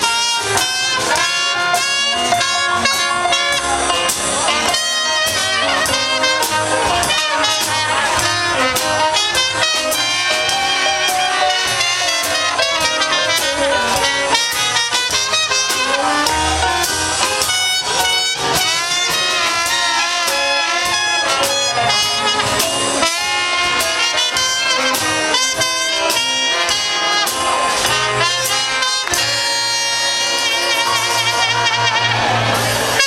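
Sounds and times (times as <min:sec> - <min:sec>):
jazz music with brass: 0:00.0 - 0:33.0.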